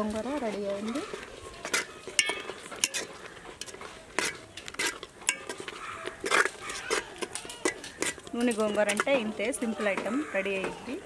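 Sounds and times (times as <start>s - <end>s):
metal ladle scraping cooking pot: 0.4s - 9.7s.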